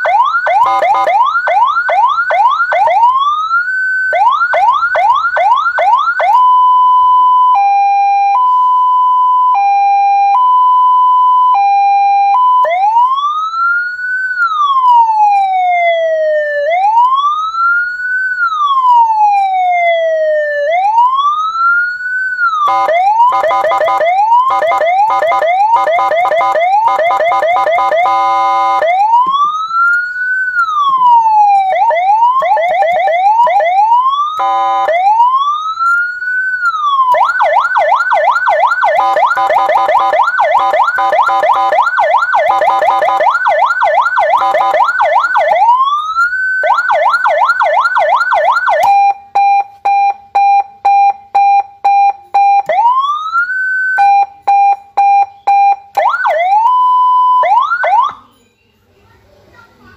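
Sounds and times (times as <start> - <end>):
electronic siren wailing and yelping: 0.0 - 49.1, 52.4 - 54.2, 55.5 - 58.2.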